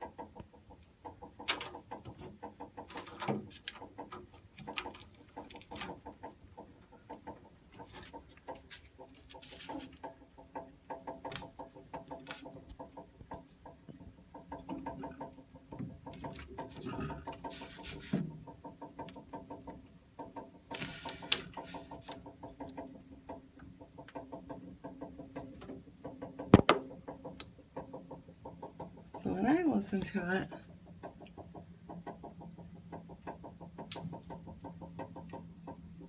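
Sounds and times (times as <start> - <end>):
water heater ticking and clicking: 0.0 - 36.0.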